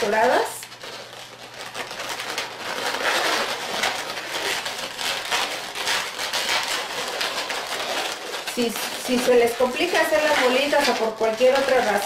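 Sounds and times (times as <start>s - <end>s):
balloons rubbing: 0.0s - 12.0s.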